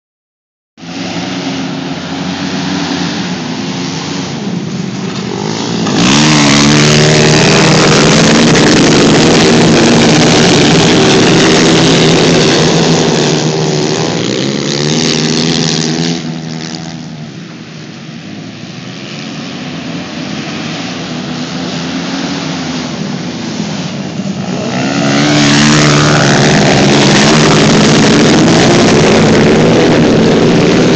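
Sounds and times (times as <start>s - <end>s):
dirt bike engines revving: 0.8s - 30.9s.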